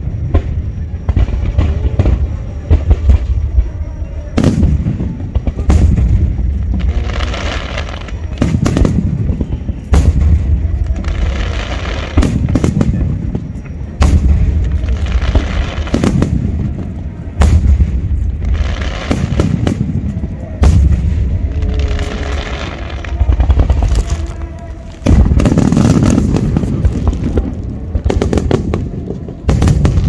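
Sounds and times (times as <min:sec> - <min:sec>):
firework shells booming: 0:04.3 - 0:30.0.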